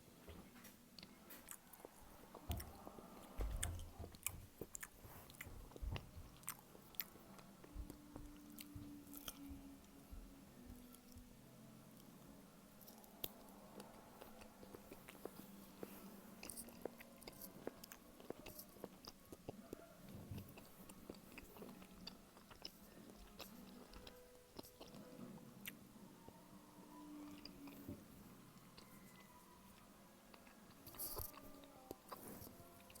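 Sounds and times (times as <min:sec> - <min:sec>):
chewing meat stick: 0:01.0 - 0:11.3, 0:12.7 - 0:33.0.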